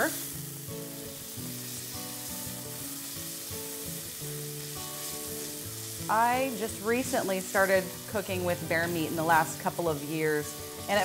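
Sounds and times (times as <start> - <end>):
meat sizzling in oil: 0.0 - 11.0
soft background music: 0.0 - 11.0
tongs turning meat in skillet: 0.0 - 11.0.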